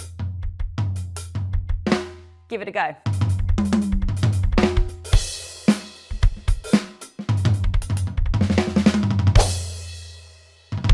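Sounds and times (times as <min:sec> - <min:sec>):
drum kit fill: 0:00.0 - 0:02.2, 0:03.1 - 0:10.9.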